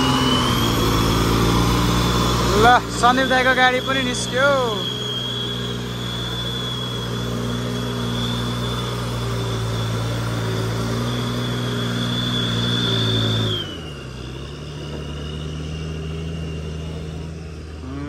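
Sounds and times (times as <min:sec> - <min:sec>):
high whine: 0:00.0 - 0:18.0
truck engine under load: 0:00.0 - 0:18.0.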